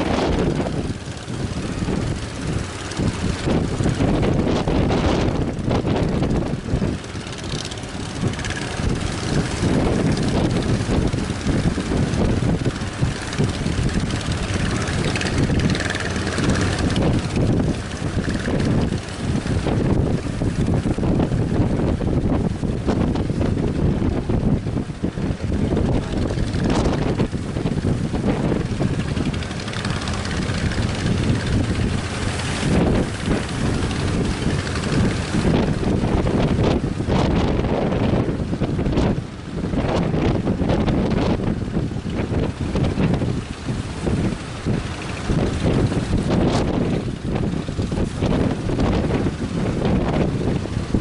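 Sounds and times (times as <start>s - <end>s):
boat engines running: 0.0s - 51.0s
wind buffeting microphone: 0.0s - 51.0s.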